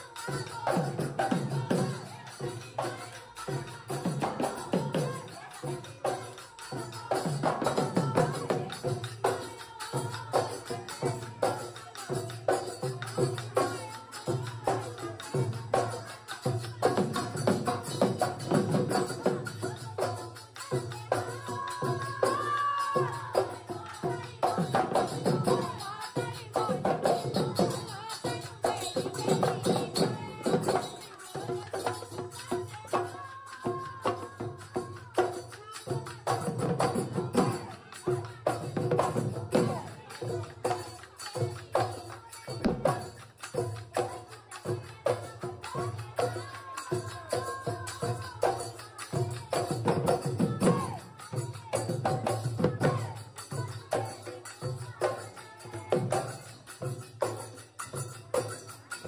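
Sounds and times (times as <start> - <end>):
folk music with fast percussion: 0.0 - 59.0.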